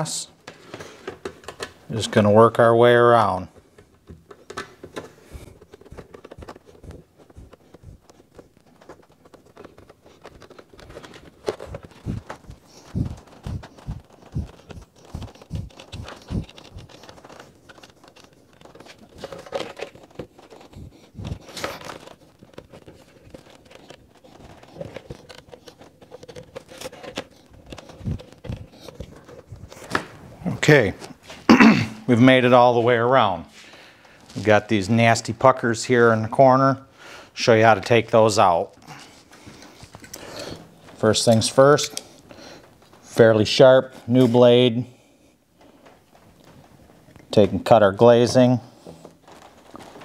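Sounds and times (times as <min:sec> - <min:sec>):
rubber strip rubbing and crinkling: 0:00.0 - 0:44.9, 0:45.5 - 0:50.0.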